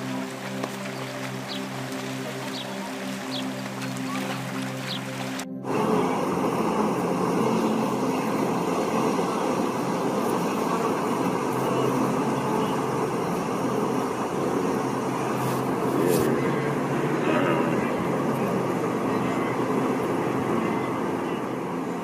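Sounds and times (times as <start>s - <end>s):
river water rushing and splashing: 0.0s - 22.0s.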